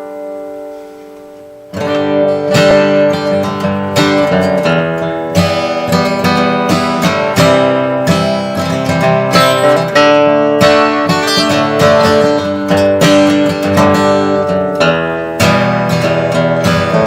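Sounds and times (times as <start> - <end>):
acoustic guitar strummed: 0.0 - 17.0.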